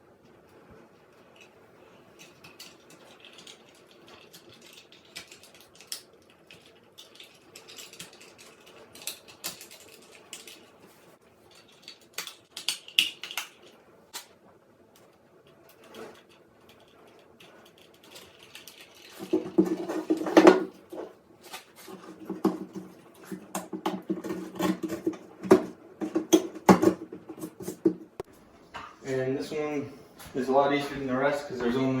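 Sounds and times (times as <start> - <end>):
hands handling small parts: 0.3 - 14.4, 15.0 - 28.9.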